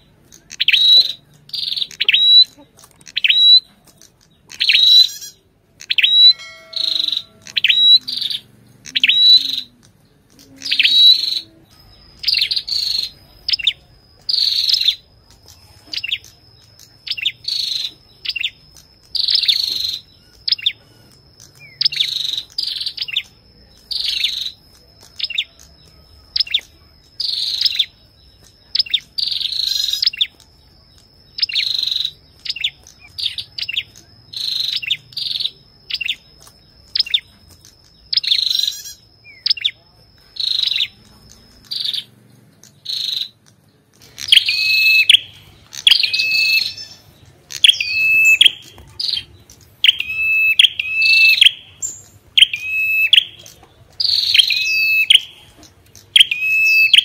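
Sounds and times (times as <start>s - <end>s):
bird calling: 0.0s - 57.0s
thin steady high tone: 4.4s - 57.0s.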